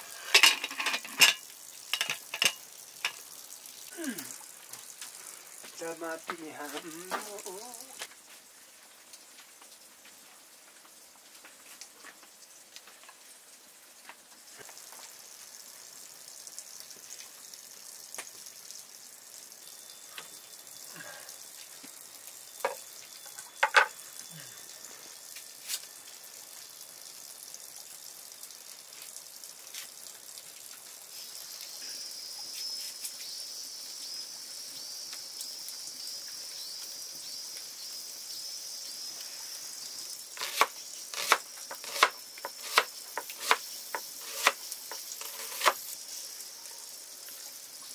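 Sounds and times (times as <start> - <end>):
food sizzling in hot oil: 0.0 - 47.9.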